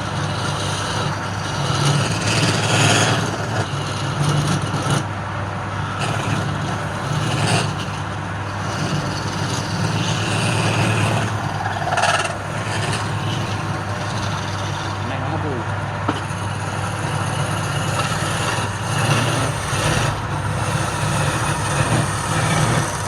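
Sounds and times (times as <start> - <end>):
lathe motor hum: 0.0 - 23.0
tool cutting spinning wood: 0.0 - 23.0.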